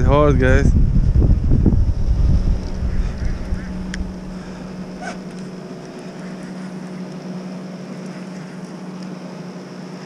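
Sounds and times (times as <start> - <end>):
boat motor idling: 1.2 - 10.0.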